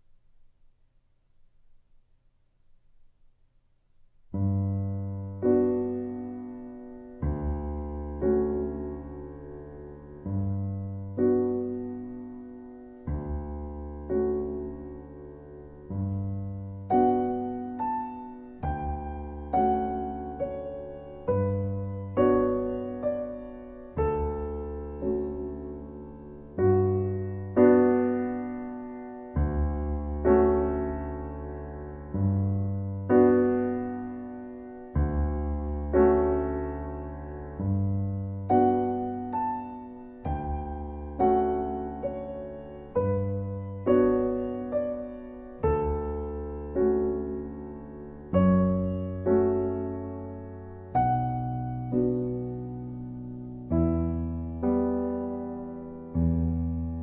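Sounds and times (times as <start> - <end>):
slow piano chords: 4.0 - 57.0.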